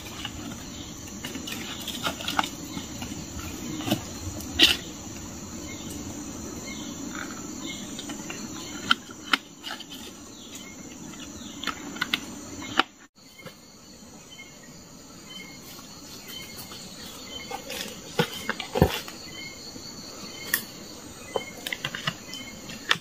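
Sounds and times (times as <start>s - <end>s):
forest insects droning: 0.0s - 23.0s.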